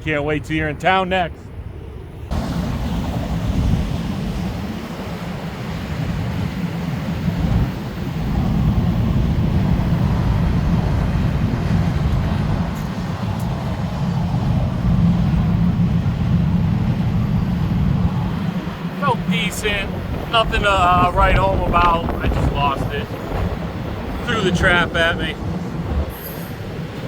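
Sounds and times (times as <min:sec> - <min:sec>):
storm wind buffeting microphone: 0:01.6 - 0:27.0.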